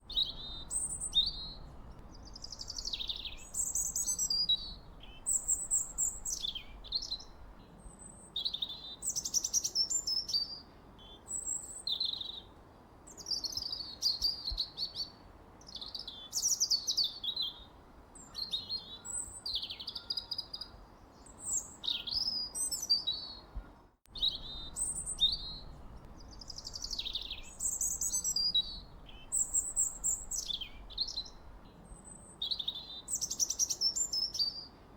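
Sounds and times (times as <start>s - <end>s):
songbirds chirping and warbling: 0.0s - 34.9s.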